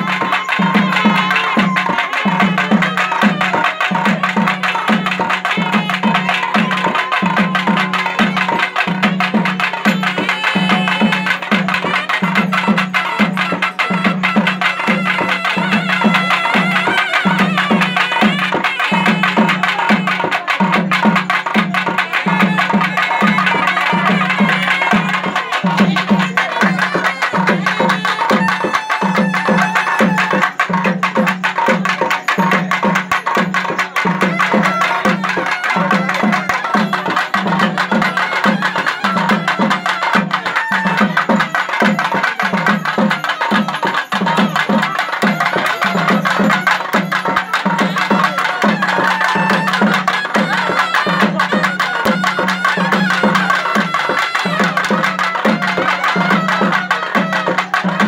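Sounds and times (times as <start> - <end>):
reed pipe melody: 0.0 - 32.4, 33.0 - 58.0.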